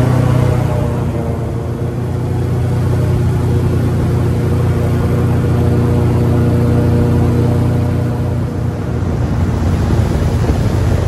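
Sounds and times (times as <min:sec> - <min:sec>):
airboat engine drone: 0:00.0 - 0:11.0.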